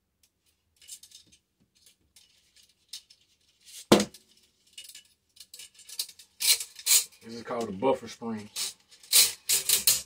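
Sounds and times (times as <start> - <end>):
metal spring scraping and rattling: 0.8 - 10.0.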